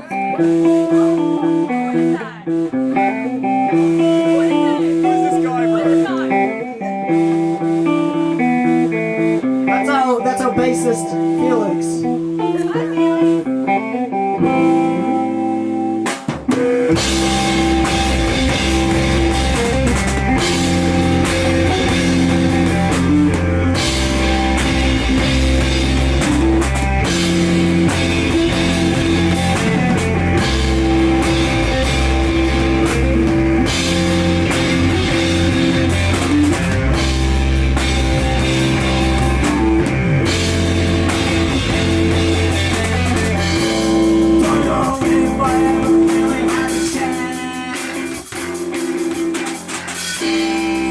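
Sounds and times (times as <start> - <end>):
electric guitar: 0.0 - 50.9
live rock band playing: 0.0 - 50.9.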